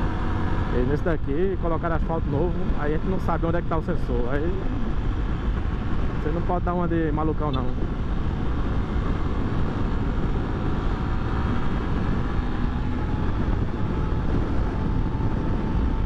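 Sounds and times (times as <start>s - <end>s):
motorcycle engine accelerating: 0.0s - 1.2s, 2.1s - 16.0s
wind rushing over microphone: 0.0s - 16.0s.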